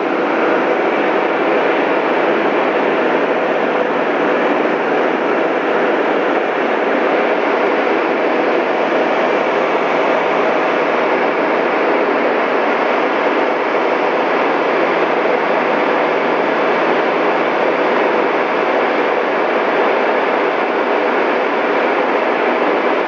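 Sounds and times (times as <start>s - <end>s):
turboprop engines droning: 0.0s - 23.0s.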